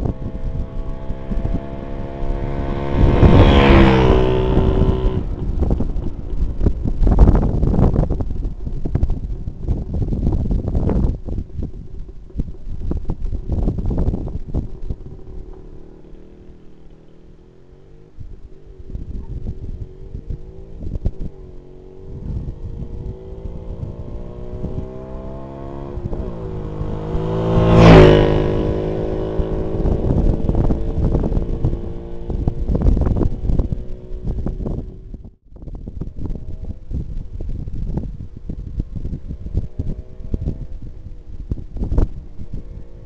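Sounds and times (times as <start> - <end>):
two-stroke motorcycle passing by: 0.0 - 35.3, 36.2 - 43.0
wind buffeting microphone: 0.0 - 43.0.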